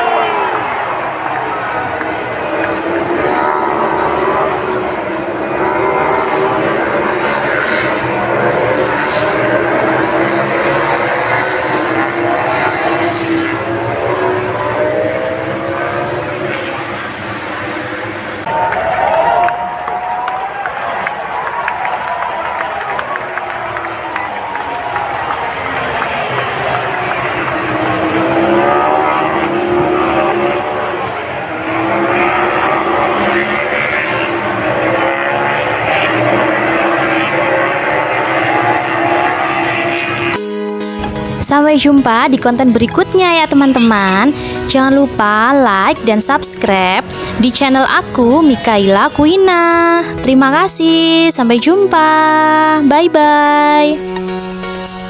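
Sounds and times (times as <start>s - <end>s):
racing motorcycle engines at high revs: 0.0s - 18.5s, 23.8s - 40.4s, 41.0s - 54.0s.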